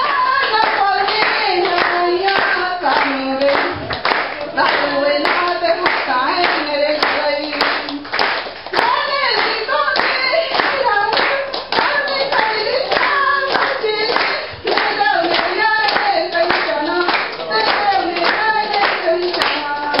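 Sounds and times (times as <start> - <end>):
rhythmic clapping: 0.0 - 20.0.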